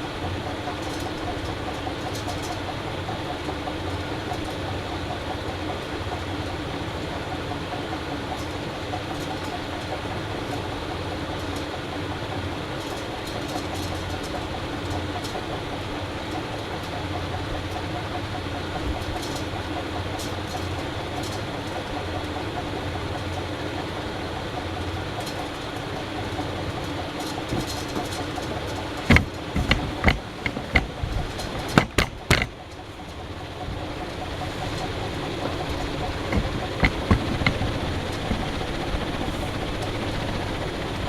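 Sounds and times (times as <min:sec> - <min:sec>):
ceiling fan air rush: 0:00.0 - 0:41.0
low motor hum: 0:00.0 - 0:41.0.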